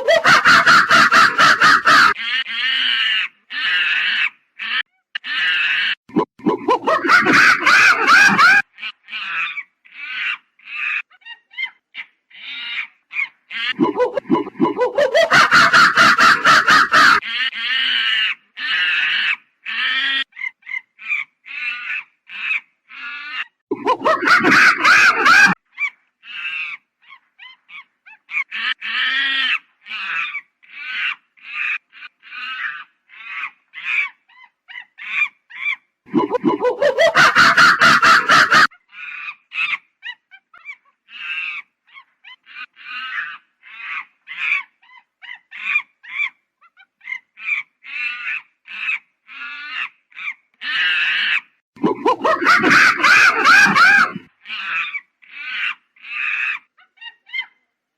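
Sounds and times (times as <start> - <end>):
long loud monkey calls: 0.0 - 57.6.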